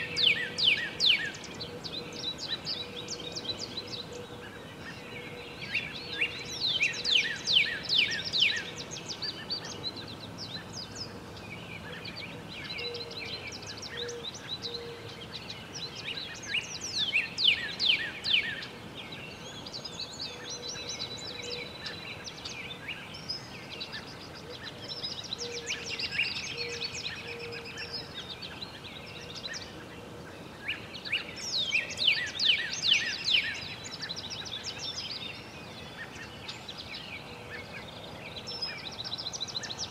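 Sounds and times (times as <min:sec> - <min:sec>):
outdoor background noise: 0:00.0 - 0:39.9
songbirds singing: 0:00.0 - 0:39.9.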